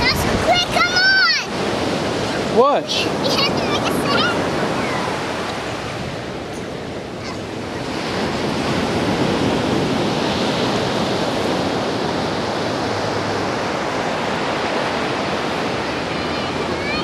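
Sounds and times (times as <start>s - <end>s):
ocean waves washing on beach: 0.0s - 17.0s.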